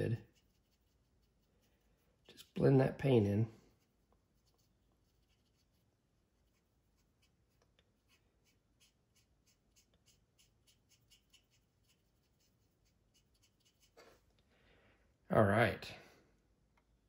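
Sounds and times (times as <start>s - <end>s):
paintbrush scrubbing on plastic: 0.0s - 14.3s.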